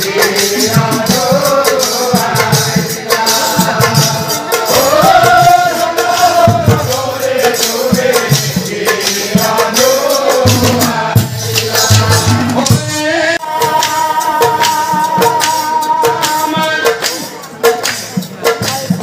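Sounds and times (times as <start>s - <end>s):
man singing: 0.0s - 17.6s
drums: 0.0s - 19.0s
jingling percussion: 0.0s - 19.0s.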